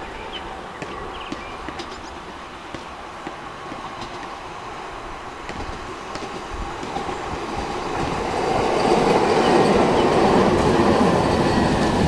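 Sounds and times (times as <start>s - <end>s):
tram wheels running on rails: 0.0s - 12.0s.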